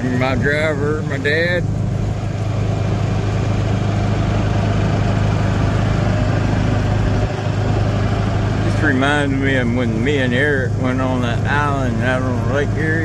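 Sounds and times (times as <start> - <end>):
golf cart motor drone: 0.0 - 13.0.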